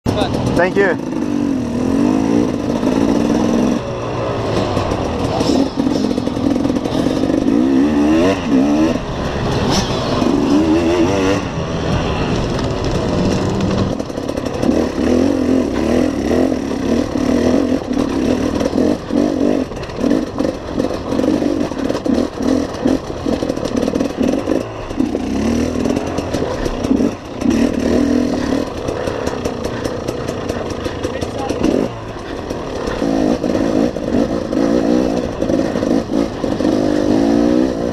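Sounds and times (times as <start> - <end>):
motorcycle engine revving: 0.1 - 37.9.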